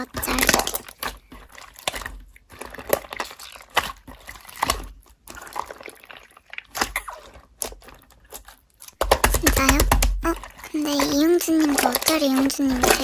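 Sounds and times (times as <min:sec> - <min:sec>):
slime squished by hand: 0:00.0 - 0:13.0.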